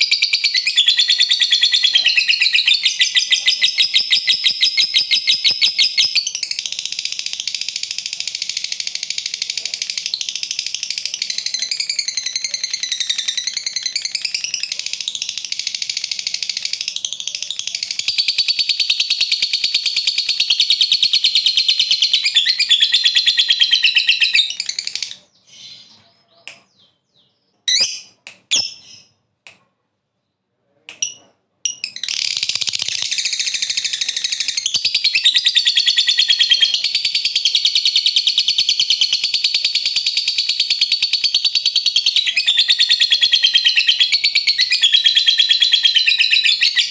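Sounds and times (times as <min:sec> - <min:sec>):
bird chattering trill: 0:00.0 - 0:27.0, 0:31.0 - 0:46.9
bird chirps: 0:00.0 - 0:29.4, 0:30.1 - 0:46.9.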